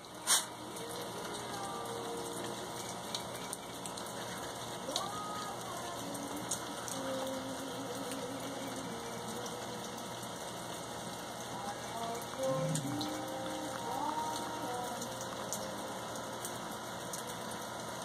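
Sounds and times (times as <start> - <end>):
water drops dripping: 0.0 - 18.0.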